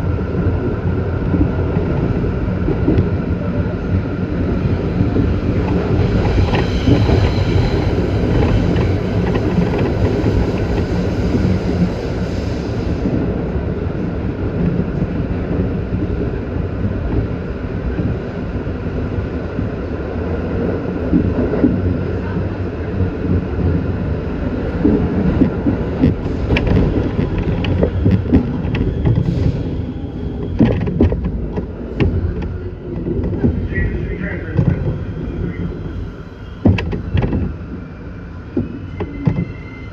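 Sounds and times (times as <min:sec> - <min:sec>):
train wheels rumbling on rail: 0:00.0 - 0:39.9
wheels clicking over rail joints: 0:00.2 - 0:12.0, 0:14.4 - 0:37.8.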